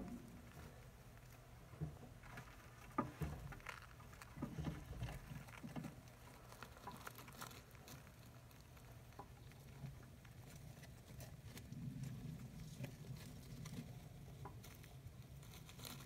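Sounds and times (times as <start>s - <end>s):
soft crackles of shredded paper bedding: 0.0s - 16.0s.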